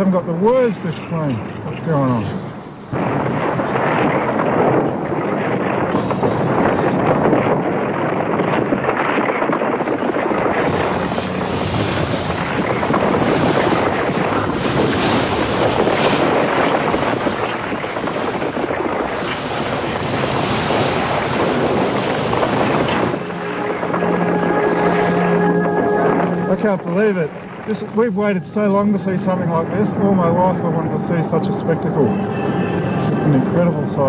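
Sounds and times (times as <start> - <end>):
wind buffeting microphone: 0.0 - 34.0
lava fountain loud rushing: 1.4 - 34.0.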